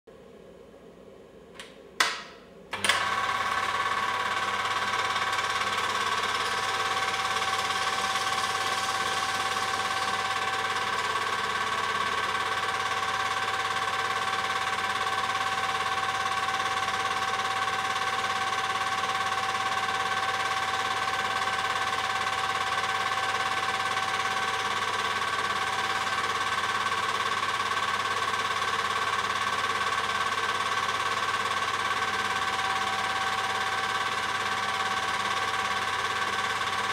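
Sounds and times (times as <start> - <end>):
film projector whirring: 2.0 - 36.9.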